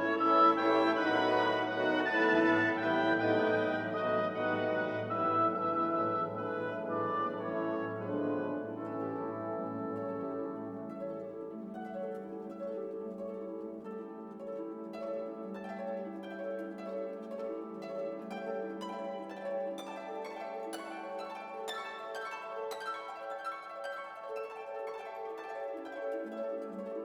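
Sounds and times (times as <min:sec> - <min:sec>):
plucked harp-like notes: 0:00.0 - 0:27.0.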